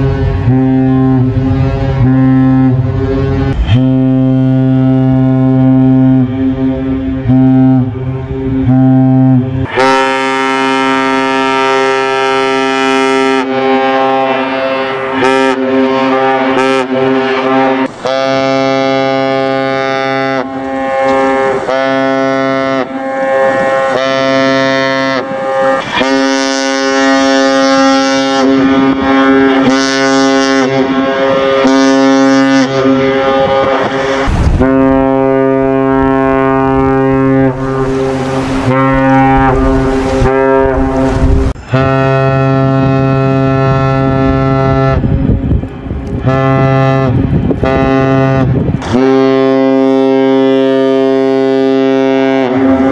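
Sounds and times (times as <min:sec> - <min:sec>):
synthesized ship horn blasts: 0:00.0 - 0:52.9.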